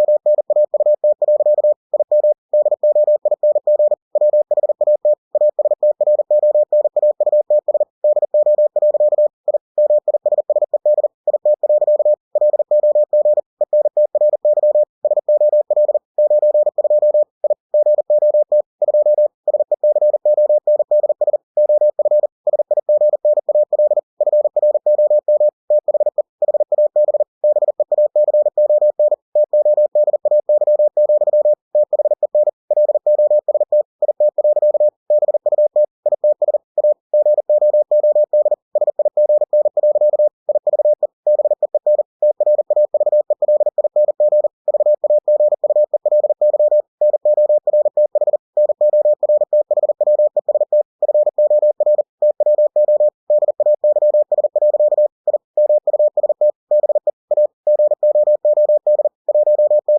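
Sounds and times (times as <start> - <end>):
morse code beeps: 0.0 - 59.9.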